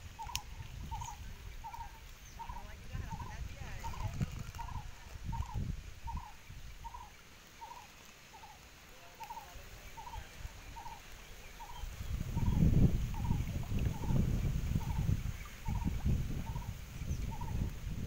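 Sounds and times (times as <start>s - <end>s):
bird calling: 0.0s - 17.7s.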